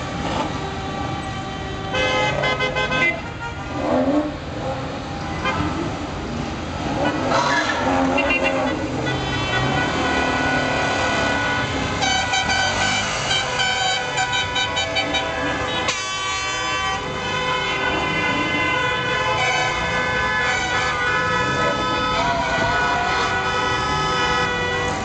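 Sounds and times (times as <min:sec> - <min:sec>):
car horns honking: 0:00.0 - 0:04.2, 0:05.2 - 0:06.0, 0:06.8 - 0:25.0.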